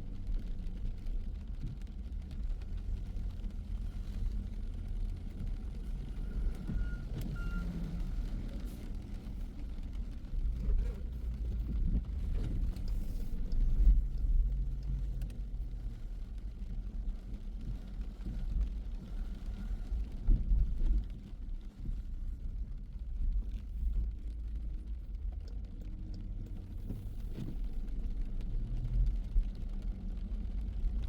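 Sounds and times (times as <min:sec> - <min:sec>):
car engine rumble while driving: 0:00.0 - 0:31.0.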